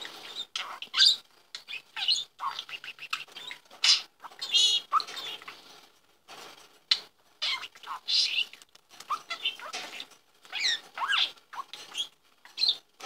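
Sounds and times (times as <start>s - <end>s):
budgerigar chirps and squeaks: 0.0s - 5.6s, 6.9s - 12.9s.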